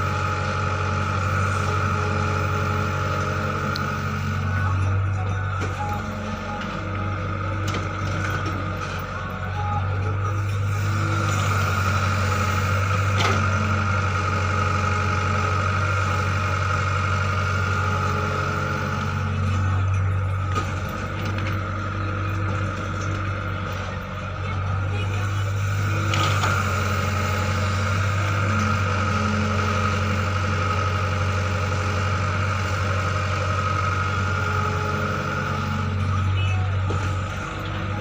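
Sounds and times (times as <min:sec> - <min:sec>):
heavy machinery engine humming: 0:00.0 - 0:38.0.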